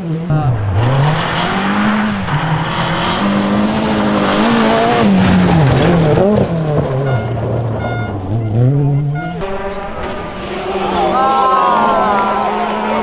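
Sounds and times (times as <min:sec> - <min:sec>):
rally car engine revving: 0:00.0 - 0:13.0
tyres on gravel: 0:00.3 - 0:13.0.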